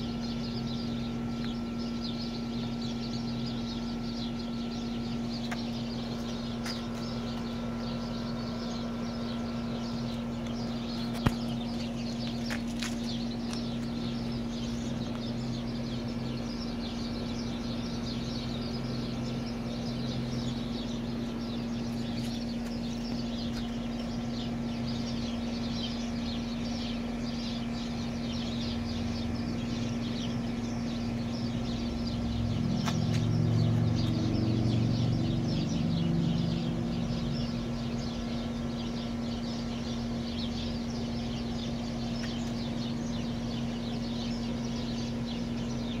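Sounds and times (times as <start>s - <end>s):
small birds chirping: 0.0s - 46.0s
steady low hum: 0.0s - 46.0s.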